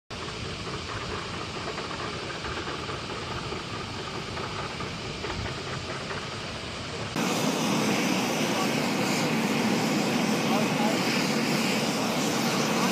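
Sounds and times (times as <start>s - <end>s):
aircraft engines hissing: 0.1s - 12.9s
steady rushing noise: 0.2s - 12.9s.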